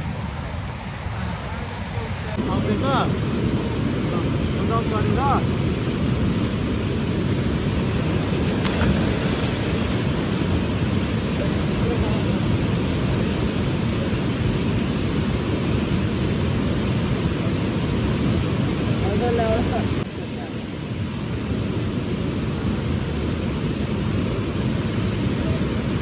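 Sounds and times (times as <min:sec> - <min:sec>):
river rushing over rapids: 0:00.0 - 0:26.0.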